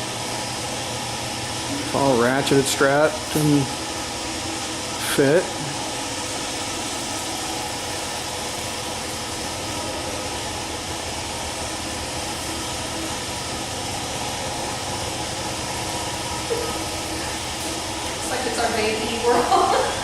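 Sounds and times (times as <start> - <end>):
steady hum with hiss: 0.0 - 20.0.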